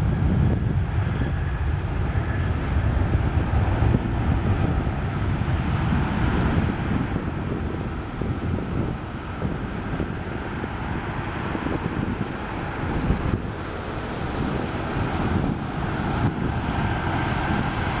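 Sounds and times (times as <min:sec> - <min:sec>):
jet engines rumbling at takeoff: 0:00.0 - 0:18.0.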